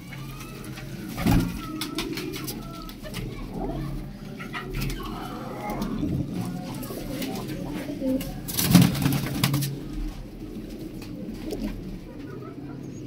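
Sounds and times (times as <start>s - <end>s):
wing flaps and clatters: 0.0s - 12.9s
pigeons cooing: 0.0s - 13.0s.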